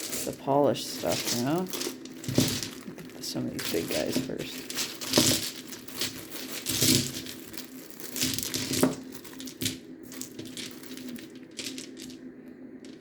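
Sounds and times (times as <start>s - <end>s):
packing material crinkling: 0.0s - 12.2s.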